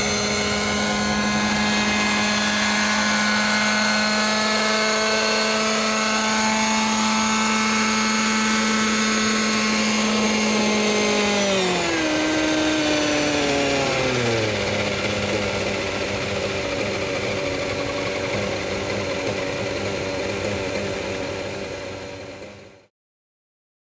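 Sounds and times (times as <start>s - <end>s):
model helicopter hum: 0.0s - 22.9s.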